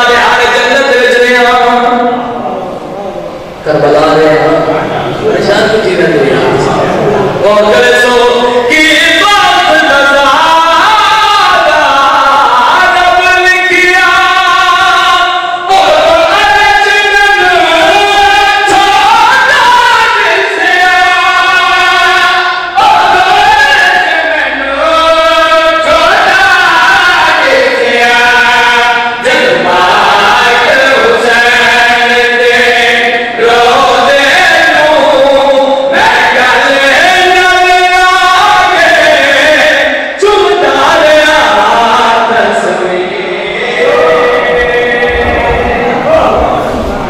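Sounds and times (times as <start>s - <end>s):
men chanting into a microphone: 0.0s - 47.0s.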